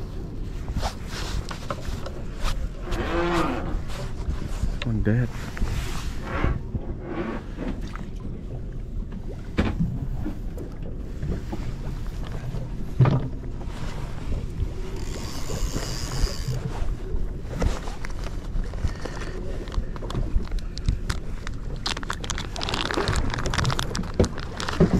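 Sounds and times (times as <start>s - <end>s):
low rumble: 0.0s - 24.9s.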